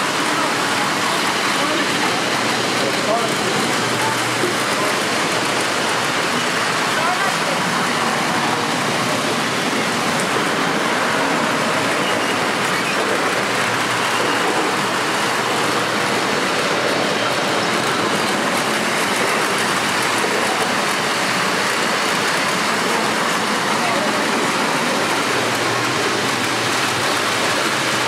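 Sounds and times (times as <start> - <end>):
model train rolling on track: 0.0 - 28.0.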